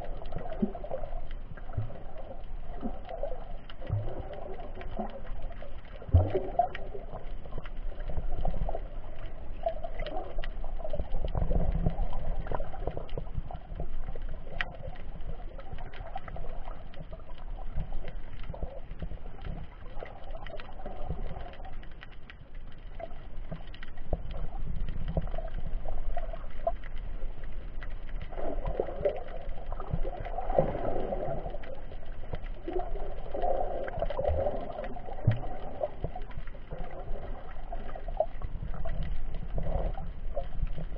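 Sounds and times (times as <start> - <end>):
faint clicks and crackles: 0.0 - 40.9
muffled underwater rumble: 0.0 - 40.9
water movement washes: 0.0 - 40.9.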